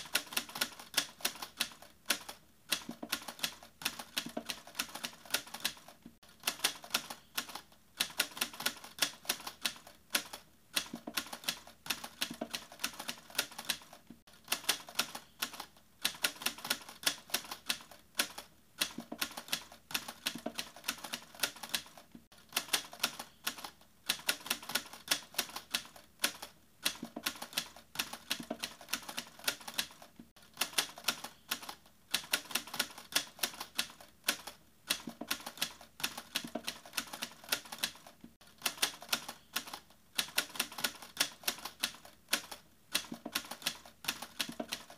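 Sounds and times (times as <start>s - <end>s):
rapid typewriter-like clicking: 0.0s - 44.9s.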